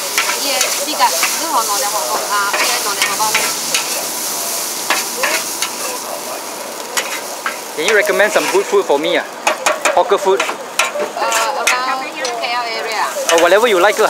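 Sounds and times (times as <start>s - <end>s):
metal spatula scraping a wok: 0.0s - 5.9s, 7.0s - 8.8s, 9.4s - 12.4s, 13.1s - 14.0s
noodles sizzling in a wok: 0.0s - 14.0s.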